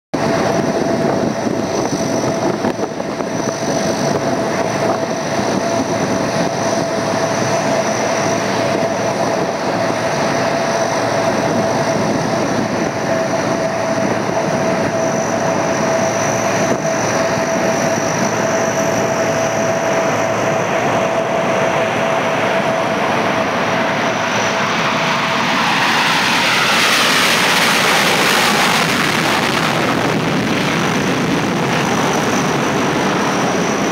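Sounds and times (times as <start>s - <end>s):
jet engines roaring: 0.2s - 33.9s.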